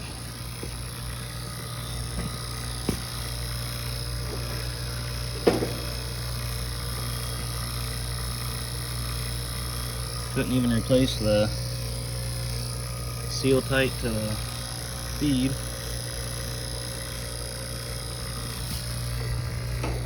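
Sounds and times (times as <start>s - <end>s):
air conditioning units humming: 0.0s - 20.0s.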